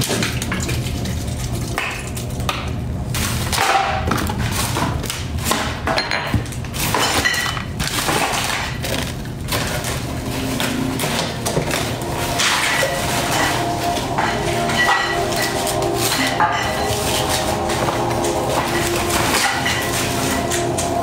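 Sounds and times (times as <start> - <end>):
dishes clattering: 3.6 - 21.0.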